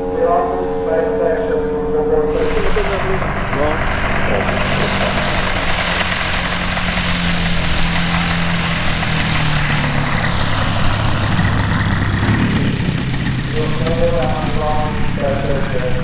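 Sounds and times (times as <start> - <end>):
model plane propeller drone: 2.1 - 16.0.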